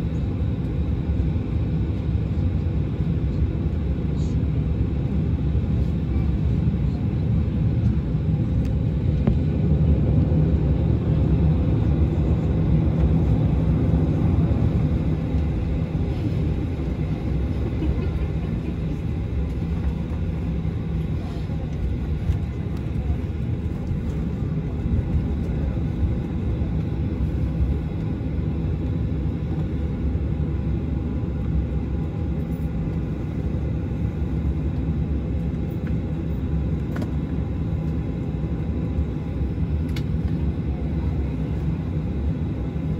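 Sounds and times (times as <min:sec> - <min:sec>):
airplane engines idling: 0:00.0 - 0:42.9.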